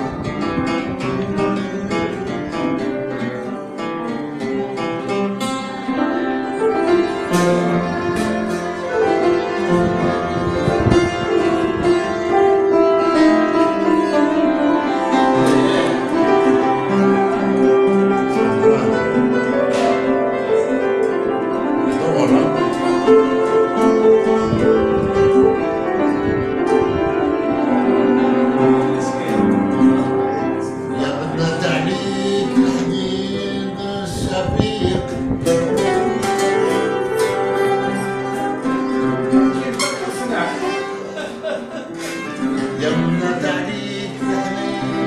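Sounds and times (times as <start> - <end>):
piano notes: 0.0 - 45.0
plucked string melody: 0.0 - 45.0.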